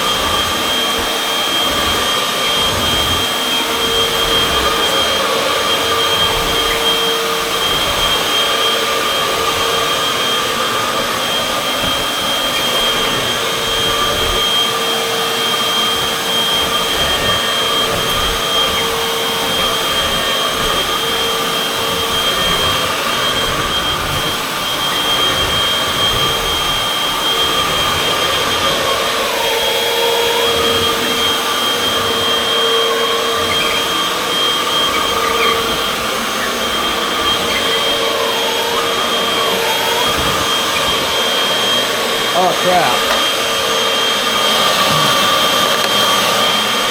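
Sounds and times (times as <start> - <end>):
vacuum cleaner whining: 0.0 - 46.9.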